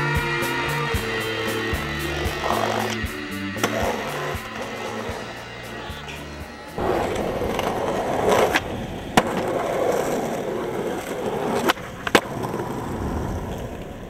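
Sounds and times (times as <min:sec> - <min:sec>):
skateboard wheels rolling on asphalt: 0:00.0 - 0:14.0
skateboard clacks: 0:00.2 - 0:14.0.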